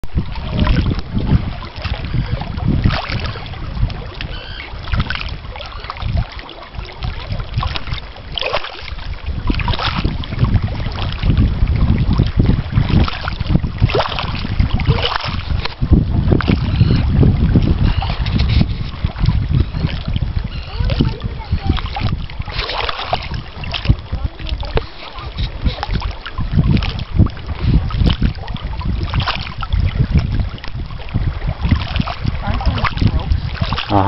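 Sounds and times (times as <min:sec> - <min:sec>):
small waves lapping on rocks: 0:00.0 - 0:34.0
wind buffeting microphone: 0:00.0 - 0:34.0.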